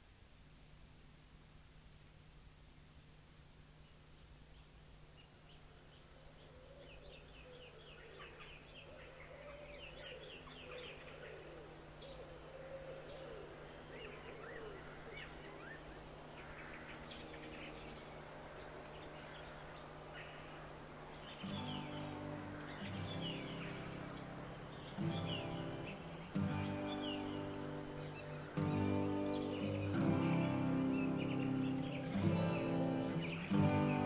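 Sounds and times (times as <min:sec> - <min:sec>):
birds chirping and twittering: 0:03.7 - 0:34.0
lower wavering bird calls: 0:03.7 - 0:34.0.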